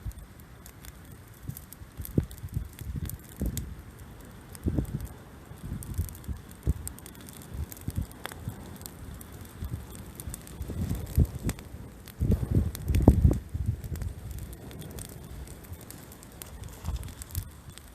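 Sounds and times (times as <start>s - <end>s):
bonfire crackling: 0.0s - 17.9s.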